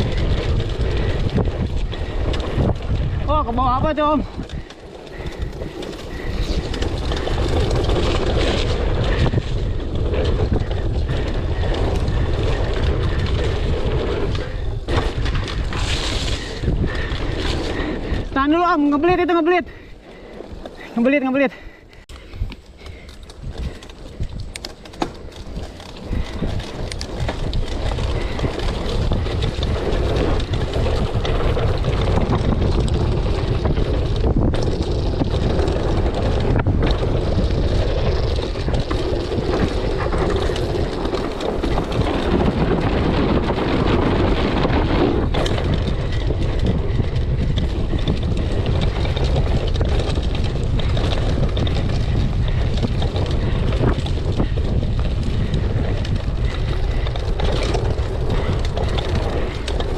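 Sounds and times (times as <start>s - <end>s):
bike rattling over ground: 0.0s - 59.9s
wind buffeting microphone: 0.0s - 59.9s.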